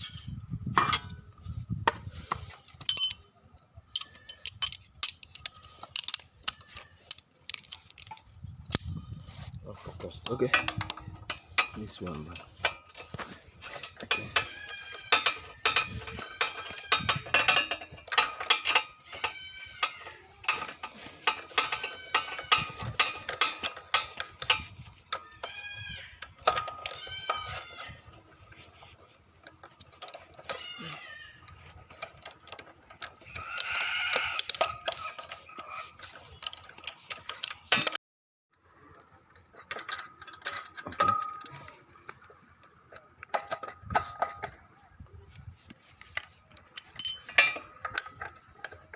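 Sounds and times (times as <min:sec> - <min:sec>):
metal tools clinking: 0:00.0 - 0:38.0, 0:38.6 - 0:48.9.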